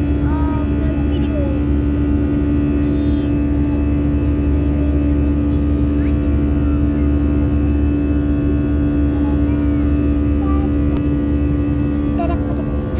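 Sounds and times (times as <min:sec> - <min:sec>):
aeroplane engines droning: 0:00.0 - 0:12.9.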